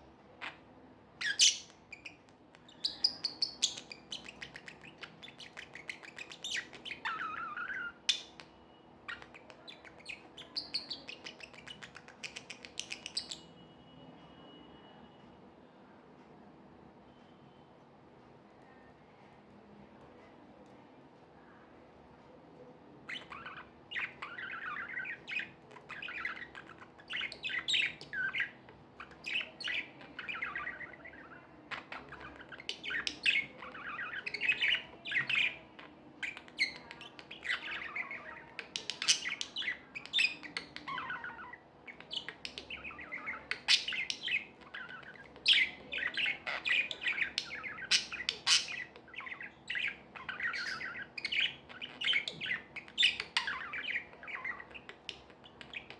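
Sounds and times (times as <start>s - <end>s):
budgerigars chirping and warbling: 0.3s - 13.6s, 23.0s - 55.9s.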